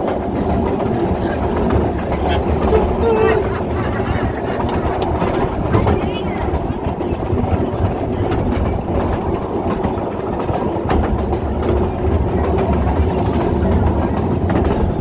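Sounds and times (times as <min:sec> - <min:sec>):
train rumbling along track: 0:00.0 - 0:15.0
wheels clattering on rails: 0:00.0 - 0:15.0.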